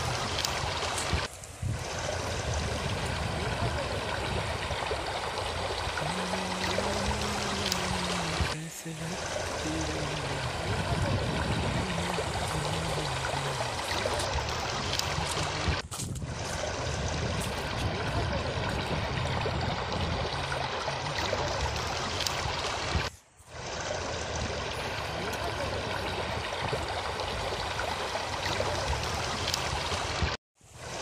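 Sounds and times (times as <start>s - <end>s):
stream flowing over rocks: 0.0s - 31.0s.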